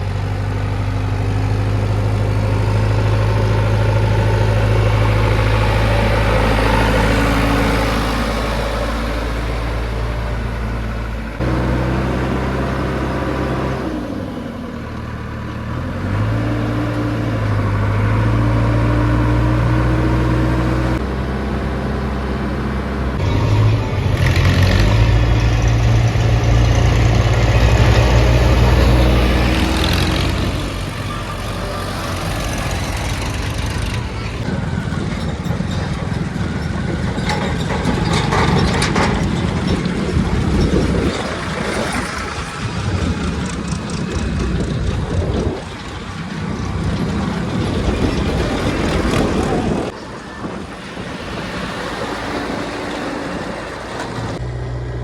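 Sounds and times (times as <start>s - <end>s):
backhoe diesel engine working: 0.0s - 55.0s.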